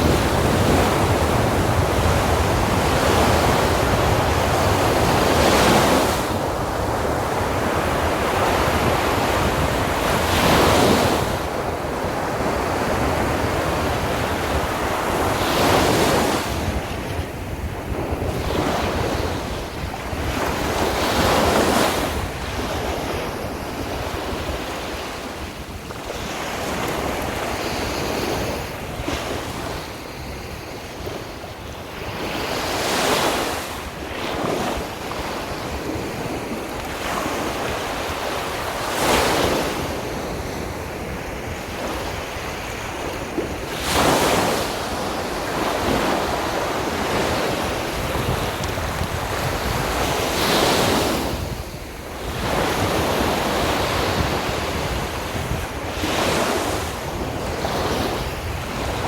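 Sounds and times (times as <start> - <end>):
sea waves breaking on beach: 0.0 - 59.0
wind rumbling on microphone: 0.0 - 59.0.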